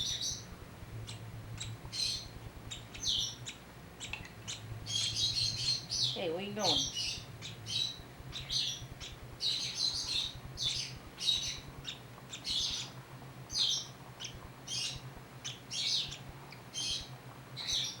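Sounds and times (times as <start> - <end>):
baby bird chirping: 0.0 - 0.5, 1.1 - 18.0.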